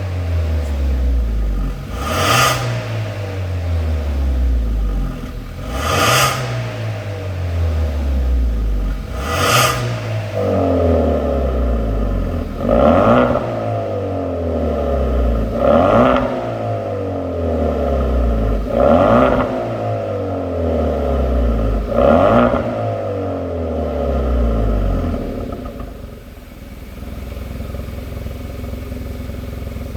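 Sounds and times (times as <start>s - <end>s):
car engine revving: 0.0s - 26.5s
car engine idling: 0.0s - 29.9s.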